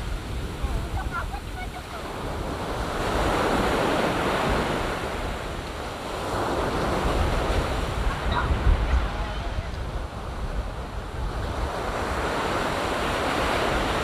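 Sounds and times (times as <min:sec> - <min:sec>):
ocean waves breaking on beach: 0:00.0 - 0:14.0
wind rumbling on microphone: 0:00.0 - 0:14.0.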